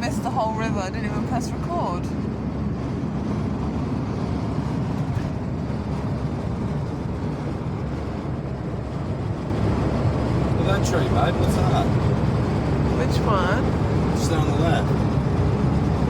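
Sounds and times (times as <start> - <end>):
van engine and road noise: 0.0 - 16.0.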